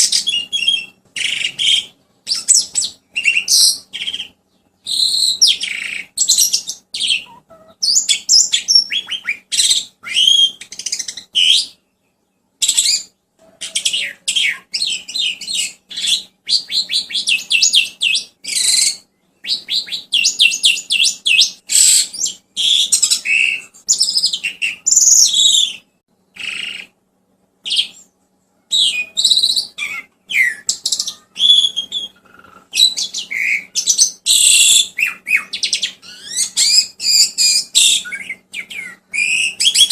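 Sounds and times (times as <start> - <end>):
faint steady hum: 0.0 - 39.9
songbird chirps and trills: 0.0 - 39.9.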